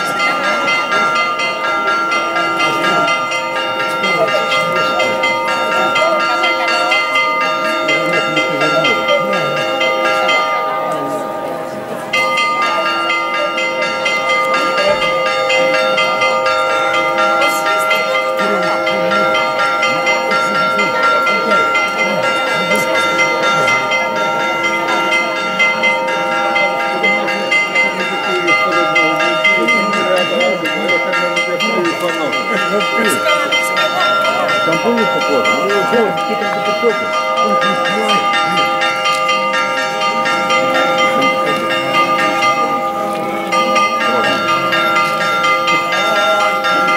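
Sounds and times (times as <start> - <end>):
church bells pealing: 0.0 - 46.9
faint voices: 0.0 - 46.9.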